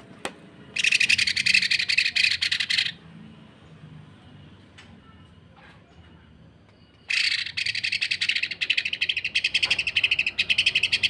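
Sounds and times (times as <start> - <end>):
bird chirping softly: 0.7 - 11.0.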